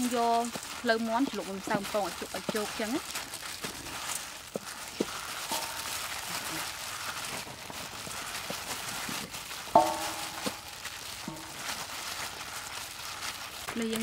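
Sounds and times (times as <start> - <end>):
plastic gloves rustling: 0.0 - 14.0.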